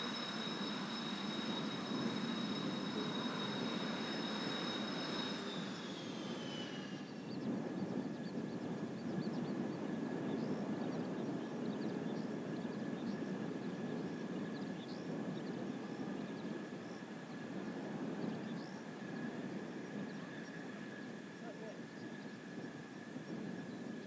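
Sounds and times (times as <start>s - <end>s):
jet engines rushing and whining: 0.0s - 24.0s.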